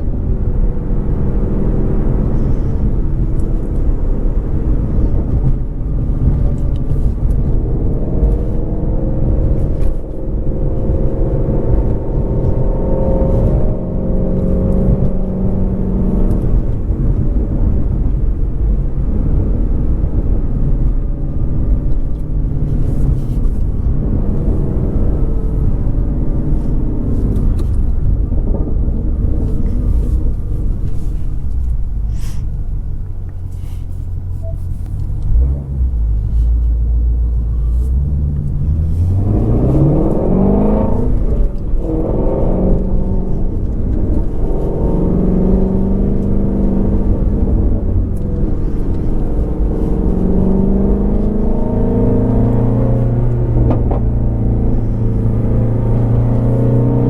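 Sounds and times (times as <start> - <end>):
car engine rumbling and revving: 0.0 - 57.0
exhaust crackles: 0.0 - 57.0.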